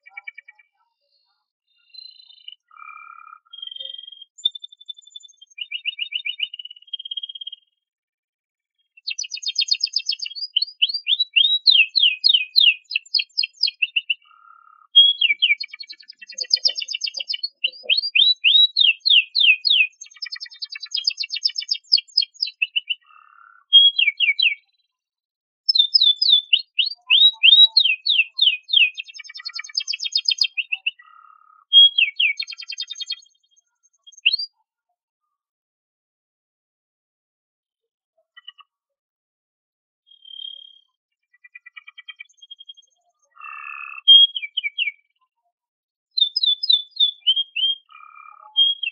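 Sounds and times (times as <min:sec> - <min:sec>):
canary singing trills: 0:00.0 - 0:07.7, 0:08.9 - 0:24.8, 0:25.7 - 0:34.6, 0:40.1 - 0:45.2, 0:46.1 - 0:48.9.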